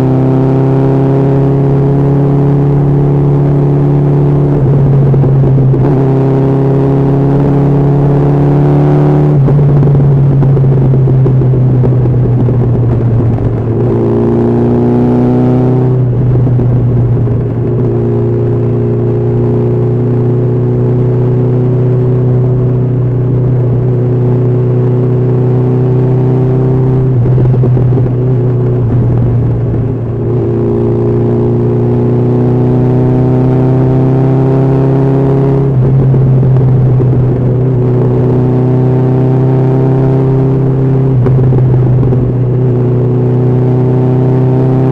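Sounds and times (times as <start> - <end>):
motorcycle engine at speed: 0.0 - 44.9
steady low rumble: 1.6 - 34.4, 35.5 - 44.0.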